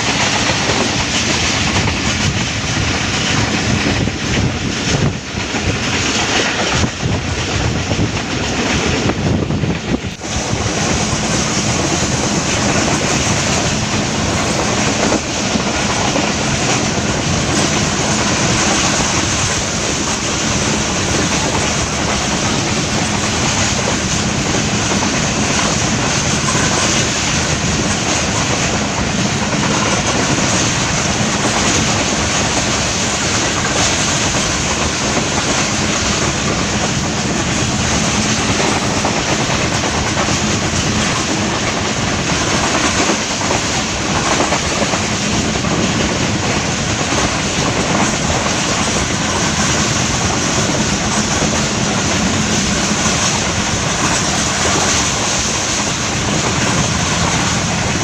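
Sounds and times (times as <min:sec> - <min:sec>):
train wheels rushing on rails: 0:00.0 - 0:58.0.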